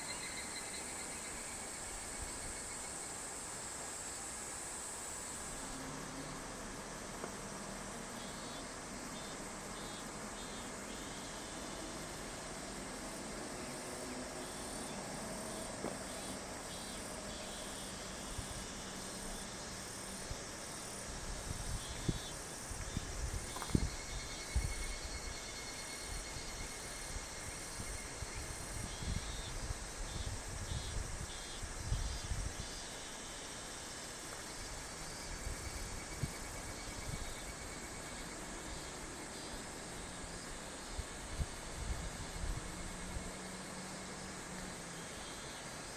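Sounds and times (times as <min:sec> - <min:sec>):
cicadas calling in pulsing phrases: 0:00.0 - 0:45.9
steady outdoor hiss: 0:00.0 - 0:45.9.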